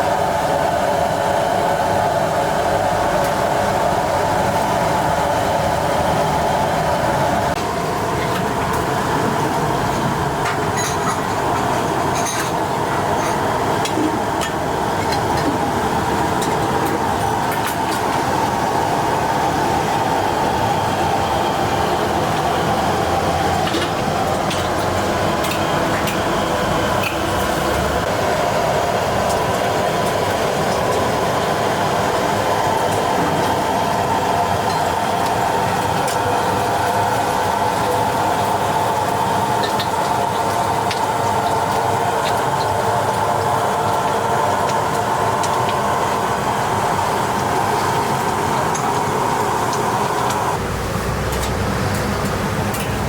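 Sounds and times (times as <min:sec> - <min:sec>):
loud mechanical roar: 0:00.0 - 0:53.0.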